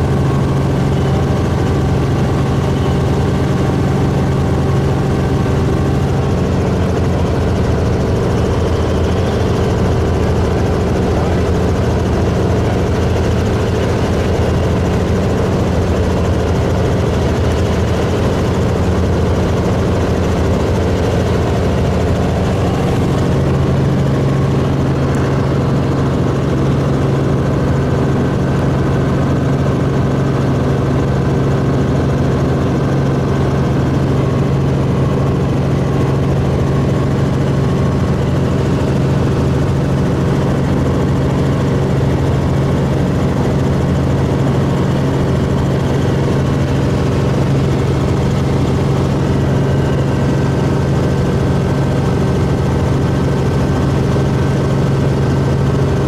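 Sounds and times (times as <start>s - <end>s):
helicopter cabin drone: 0.0s - 56.0s
low hum: 0.0s - 56.0s.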